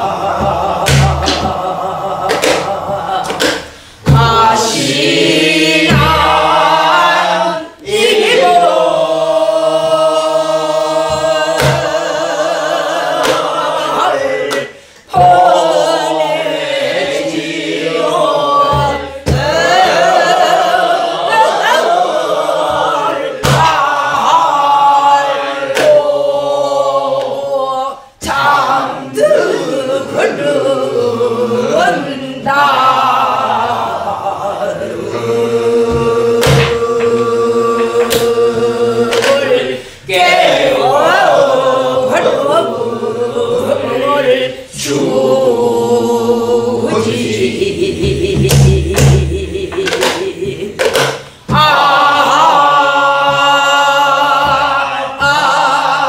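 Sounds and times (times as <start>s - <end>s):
group singing folk song in unison: 0.0s - 56.0s.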